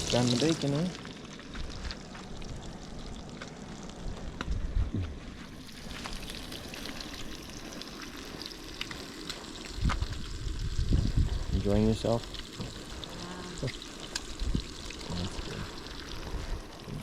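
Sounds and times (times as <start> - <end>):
bacon sizzling in a pan: 0.0 - 4.2, 5.5 - 17.0.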